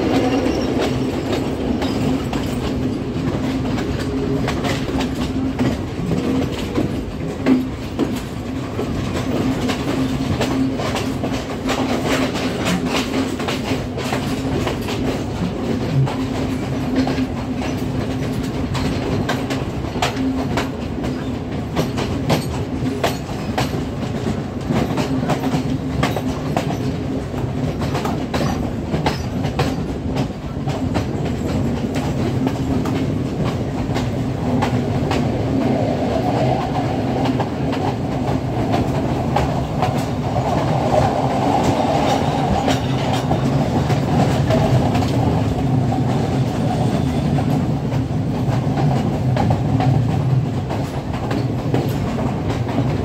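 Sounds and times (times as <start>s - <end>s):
clickety-clack over rails: 0.0s - 53.0s
train wheels rumbling and humming: 0.0s - 53.0s.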